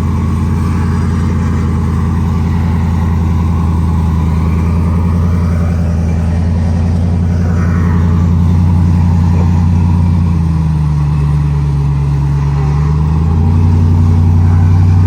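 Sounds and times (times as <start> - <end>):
truck engine running low: 0.0 - 15.0.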